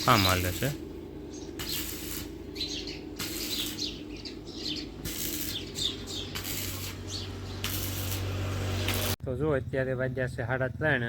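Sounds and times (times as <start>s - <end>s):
small birds chirping: 0.0s - 9.2s
low hum: 0.0s - 10.9s.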